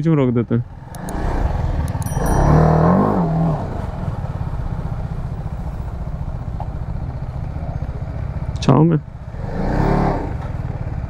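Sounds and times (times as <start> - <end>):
motorcycle engine idling: 0.1 - 11.0.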